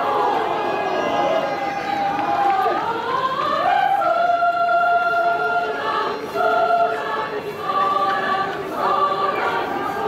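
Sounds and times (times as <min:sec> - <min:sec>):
choir singing in harmony: 0:00.0 - 0:10.0.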